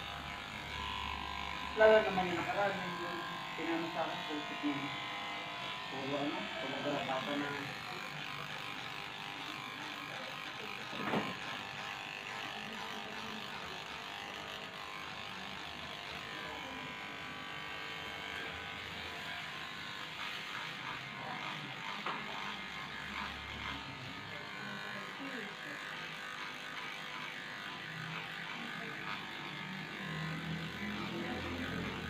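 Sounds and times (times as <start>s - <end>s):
electric clippers running: 0.0s - 32.0s.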